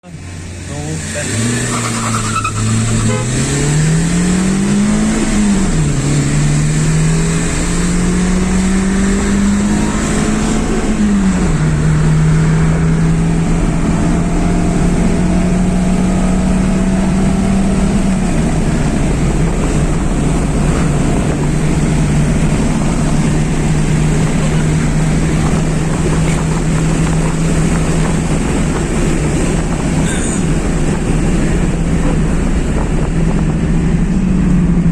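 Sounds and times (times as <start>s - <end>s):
car engine accelerating: 0.0s - 34.9s
wind and road noise: 0.0s - 34.9s.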